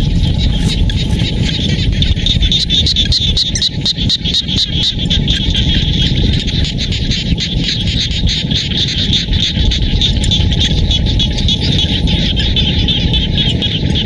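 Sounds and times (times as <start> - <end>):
frogs chorus calling: 0.0 - 14.0
low rough rumble: 0.0 - 14.0.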